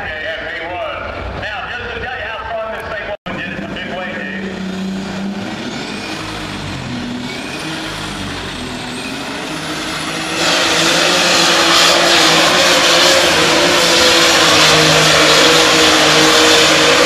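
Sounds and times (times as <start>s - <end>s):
pulling tractor engine roaring: 0.0s - 17.0s.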